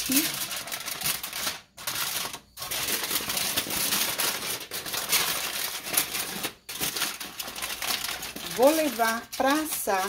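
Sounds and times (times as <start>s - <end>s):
aluminum foil crinkling: 0.0s - 10.0s.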